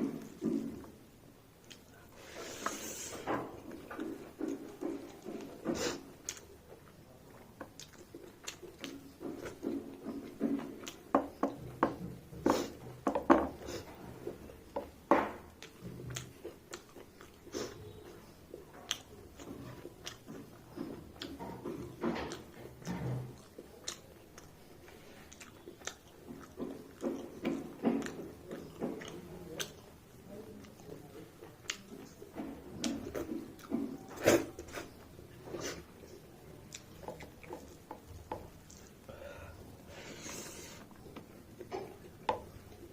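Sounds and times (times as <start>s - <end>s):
person chewing and smacking: 1.6s - 2.8s, 3.5s - 39.1s.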